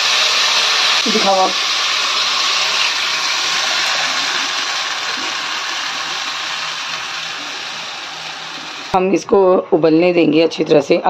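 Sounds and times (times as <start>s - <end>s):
batter sizzling in hot oil: 0.0s - 9.0s.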